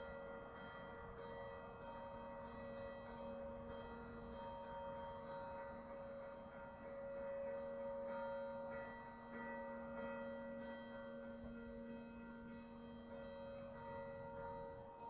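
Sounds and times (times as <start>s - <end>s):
church bell ringing: 0.0s - 15.0s.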